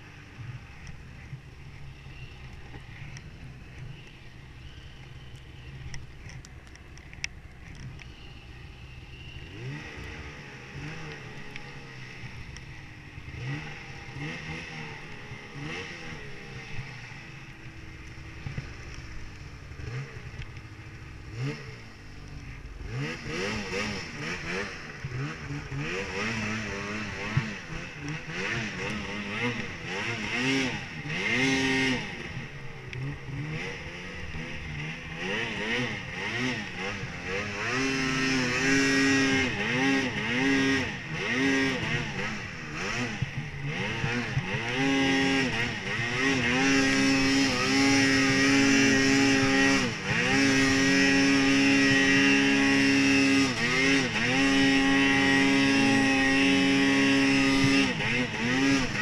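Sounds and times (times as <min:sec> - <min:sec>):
snowmobile engine revving: 0:07.0 - 0:59.0.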